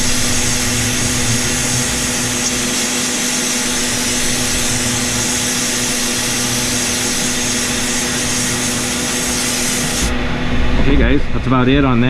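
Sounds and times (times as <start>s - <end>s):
sandblaster hissing: 0.0s - 10.2s
steady hum: 0.0s - 12.0s.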